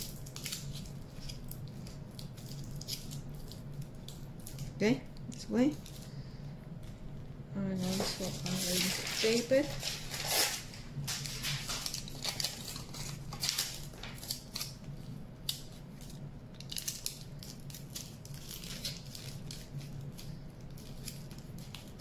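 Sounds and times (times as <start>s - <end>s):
aluminium foil crinkling: 0.0s - 6.2s, 7.7s - 22.0s.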